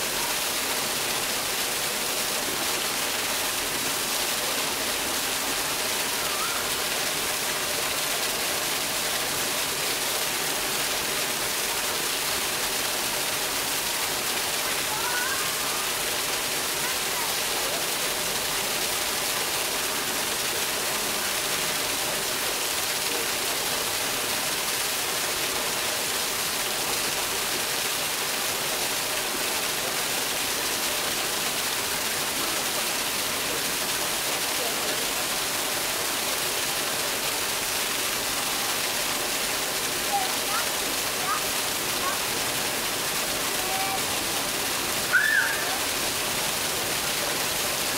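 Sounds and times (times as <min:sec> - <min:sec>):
waterfall splashing into pool: 0:00.0 - 0:47.9.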